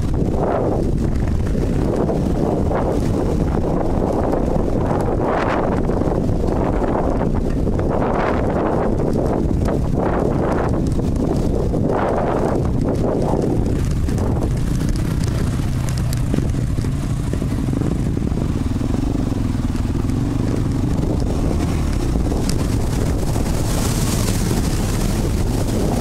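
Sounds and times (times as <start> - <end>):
off-road vehicle engine running: 0.0 - 26.0
wind rushing: 0.0 - 26.0.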